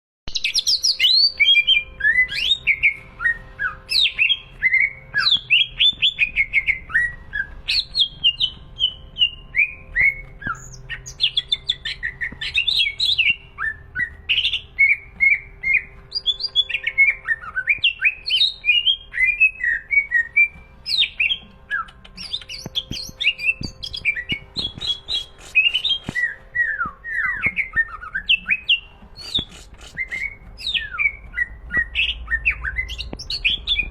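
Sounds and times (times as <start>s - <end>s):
bird singing: 0.3s - 33.9s.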